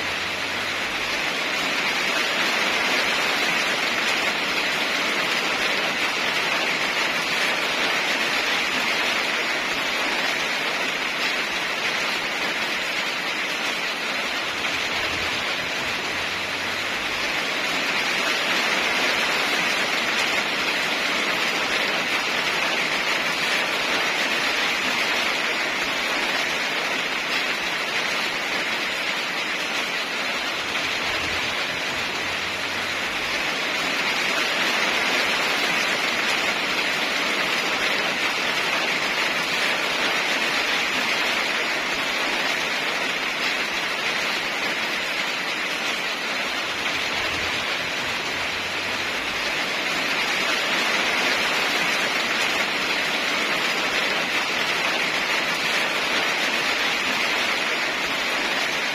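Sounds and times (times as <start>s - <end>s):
heavy rainfall: 0.0s - 58.9s.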